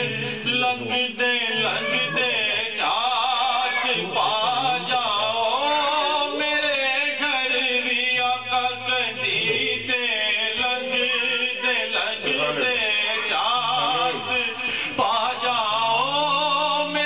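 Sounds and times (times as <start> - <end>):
man singing devotional verse: 0.0 - 17.0.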